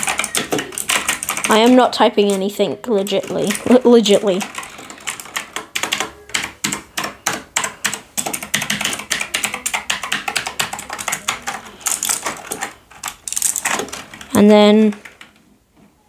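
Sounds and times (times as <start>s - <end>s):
mechanical keyboard typing: 0.0s - 15.4s.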